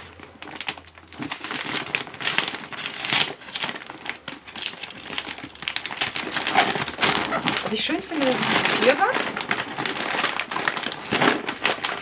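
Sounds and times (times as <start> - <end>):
paper sack crinkling: 0.0 - 12.0.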